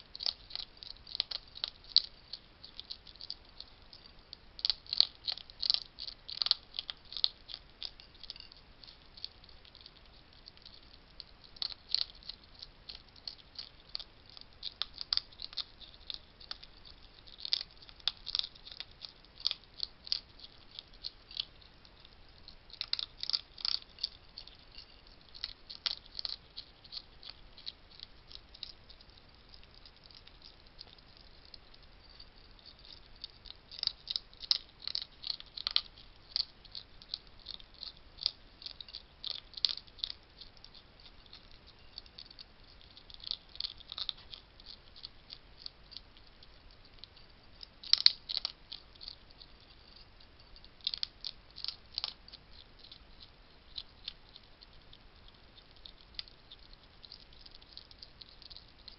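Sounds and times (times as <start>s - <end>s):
hedgehogs crunching dry food: 0.0s - 58.9s.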